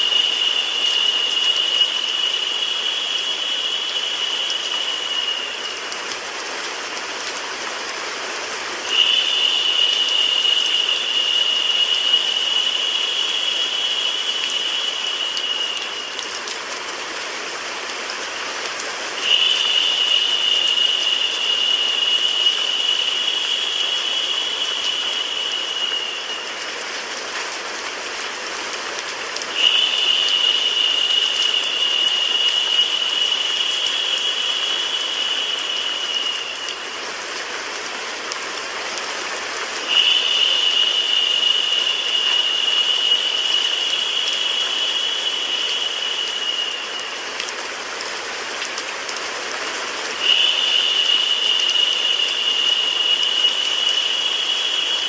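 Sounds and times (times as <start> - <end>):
rain: 0.0 - 55.0.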